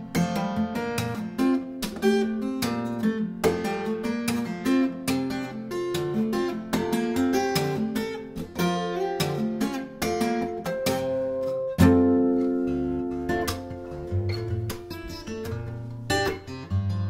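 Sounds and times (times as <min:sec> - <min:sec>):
fingerstyle acoustic guitar: 0:00.0 - 0:17.0
taps on guitar fretboard: 0:00.9 - 0:16.8.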